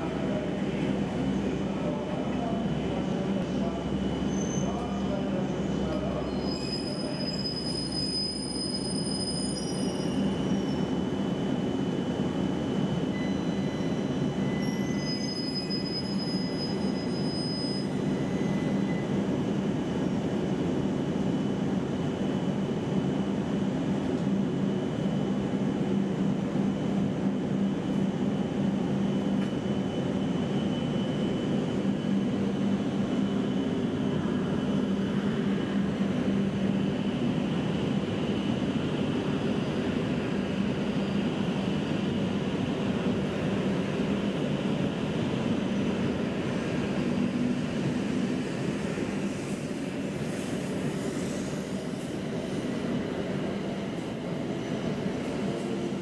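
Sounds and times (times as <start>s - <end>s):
train humming at platform: 0.0s - 56.0s.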